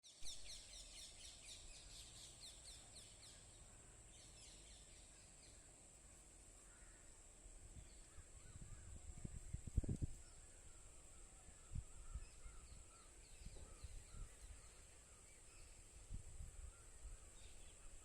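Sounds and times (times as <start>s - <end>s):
bird chirping: 0.0s - 5.7s, 7.8s - 18.0s
steady high hiss: 0.5s - 18.0s.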